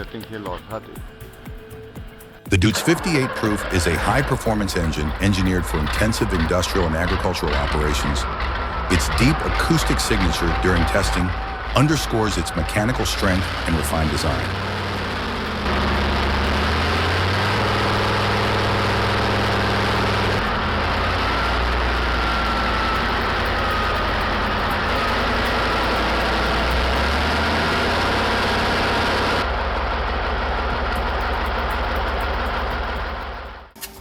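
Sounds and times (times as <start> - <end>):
industrial engine running: 0.0 - 33.8.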